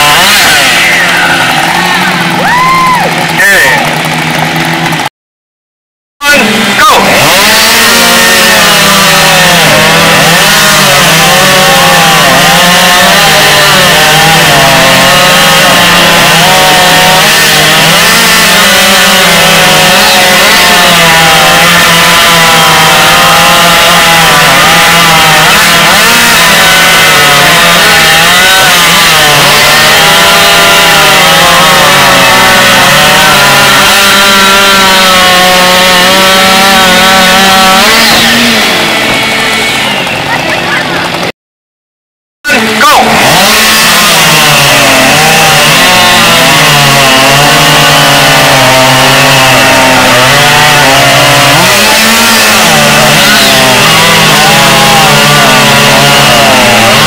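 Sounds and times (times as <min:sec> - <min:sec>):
chainsaw cutting log: 0:00.0 - 0:05.1, 0:06.2 - 0:41.3, 0:42.5 - 0:57.0.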